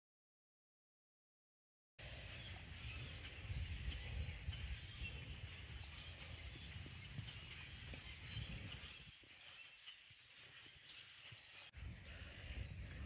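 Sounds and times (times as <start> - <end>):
faint bird chirps: 2.0 - 13.0.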